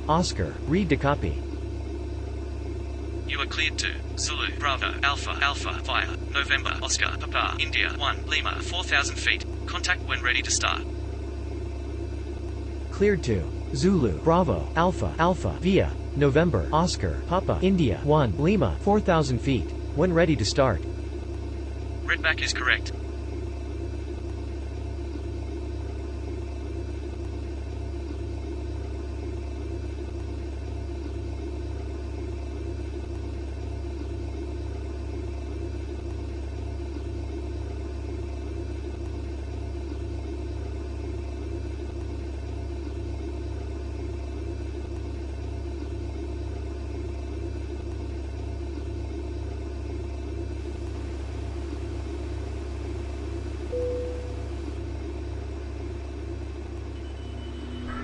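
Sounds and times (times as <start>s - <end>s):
airplane cabin hum: 0.0s - 58.0s.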